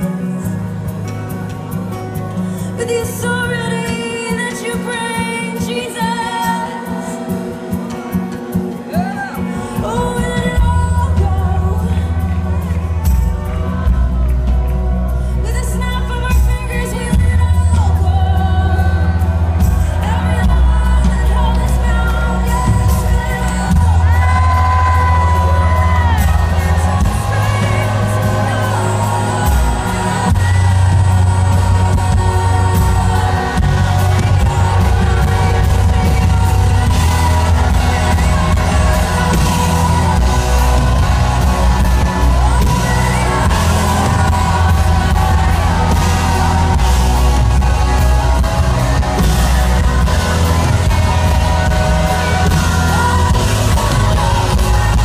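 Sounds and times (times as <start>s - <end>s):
loud band with heavy bass: 0.0s - 55.0s
person singing: 0.0s - 55.0s.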